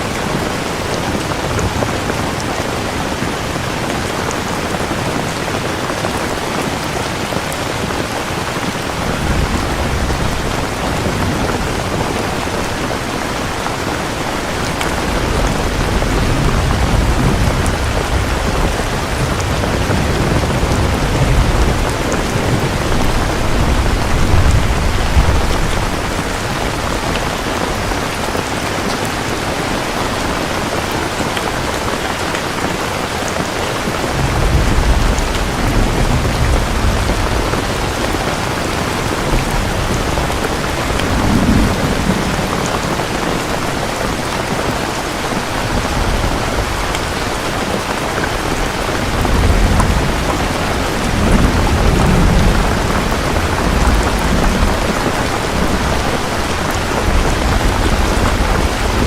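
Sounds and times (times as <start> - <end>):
steady rain: 0.0 - 59.0
thunder rumbling: 0.0 - 59.0.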